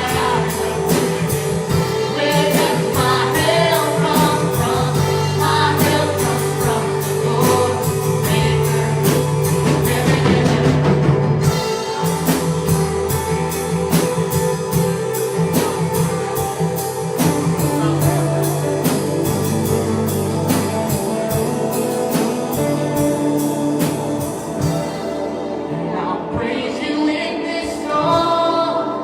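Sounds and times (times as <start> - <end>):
drum kit steady beat: 0.0 - 25.5
guitar: 0.0 - 29.0.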